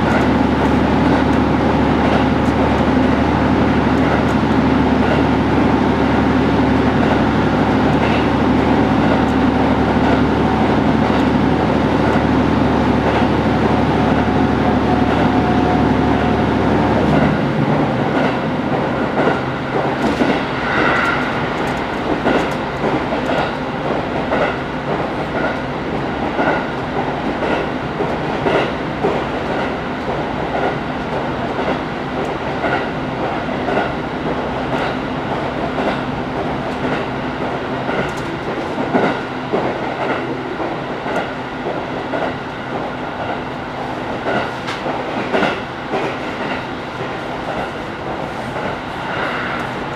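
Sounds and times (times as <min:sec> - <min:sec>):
railcar engine drone: 0:00.0 - 0:49.9
train wheels clicking on rail joints: 0:00.0 - 0:49.9.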